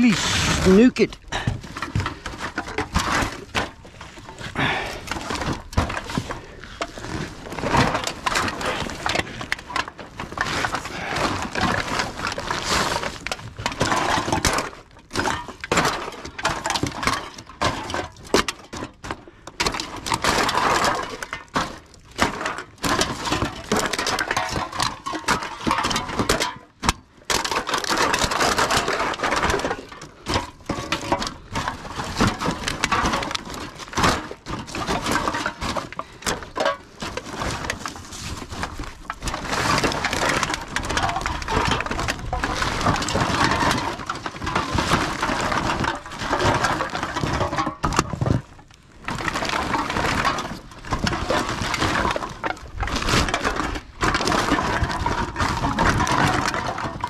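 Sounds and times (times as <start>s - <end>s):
cans and bottles clattering: 0.0s - 57.0s.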